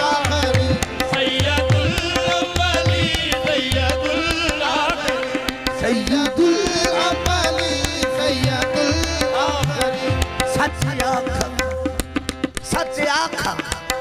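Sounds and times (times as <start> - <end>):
harmonium holding a note: 0.0 - 12.9
tabla beating quick rhythm: 0.0 - 14.0.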